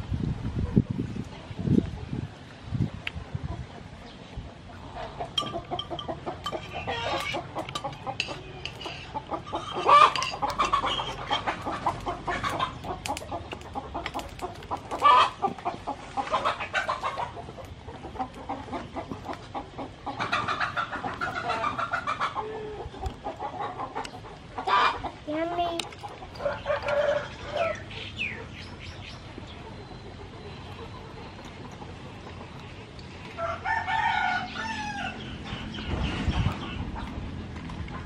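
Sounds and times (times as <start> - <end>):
chickens clucking: 0.5 - 38.0.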